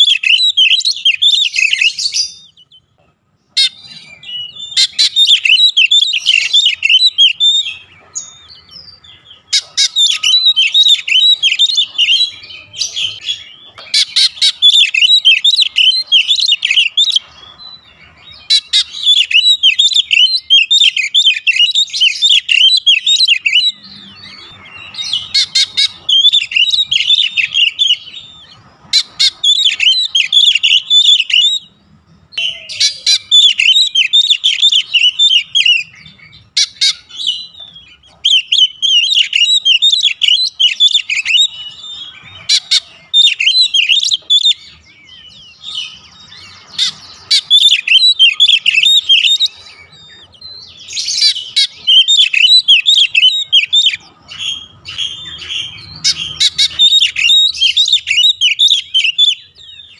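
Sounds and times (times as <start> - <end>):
songbird whistling and chattering: 0.0 - 59.9.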